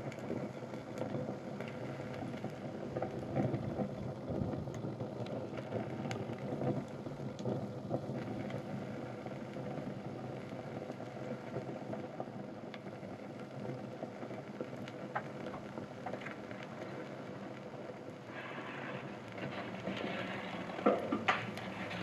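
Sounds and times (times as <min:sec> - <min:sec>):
fire crackling and popping: 0:00.0 - 0:22.0
fire flames rushing: 0:00.0 - 0:22.0.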